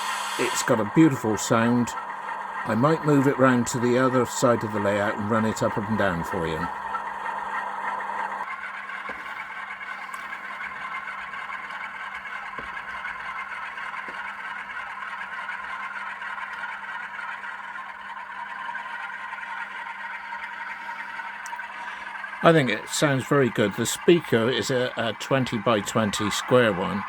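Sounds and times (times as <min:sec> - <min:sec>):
model locomotive diesel engine sound: 0:00.0 - 0:27.0.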